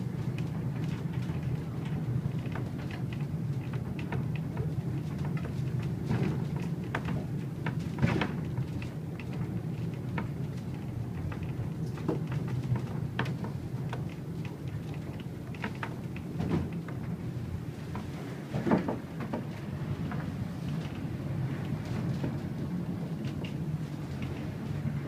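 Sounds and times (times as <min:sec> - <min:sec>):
wheels rumbling on rails: 0:00.0 - 0:25.0
wooden carriage creaking and knocking: 0:00.2 - 0:25.0.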